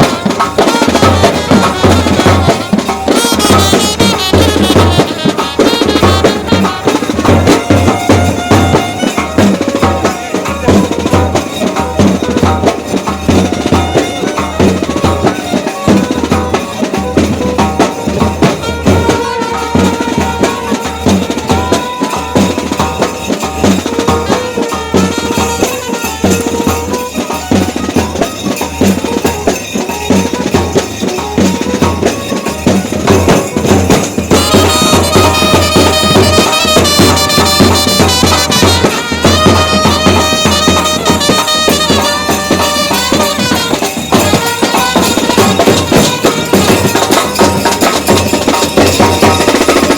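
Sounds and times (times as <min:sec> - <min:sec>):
fast steady drumming: 0:00.0 - 0:49.9
shehnai melody: 0:00.0 - 0:49.9.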